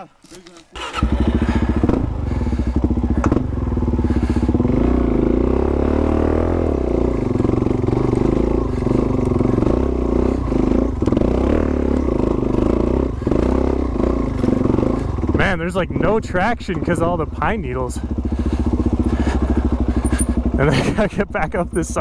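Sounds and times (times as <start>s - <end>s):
motorcycle engine revving: 0.8s - 22.0s.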